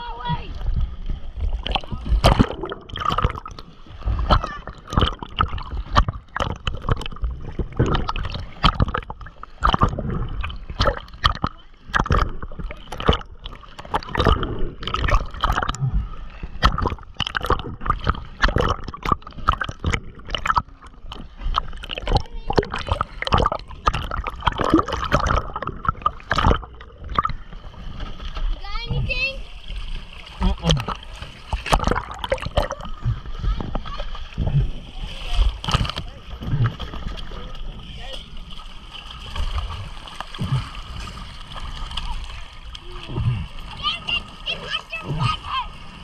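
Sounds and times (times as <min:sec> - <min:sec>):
sea water splashing and gurgling: 0:00.0 - 0:46.0
swimmers splashing: 0:00.0 - 0:46.0.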